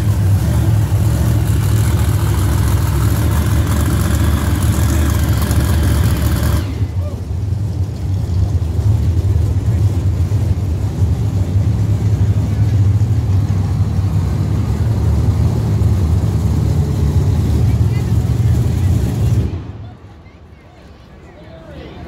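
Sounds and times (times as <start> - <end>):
truck engine running low: 0.0 - 20.2.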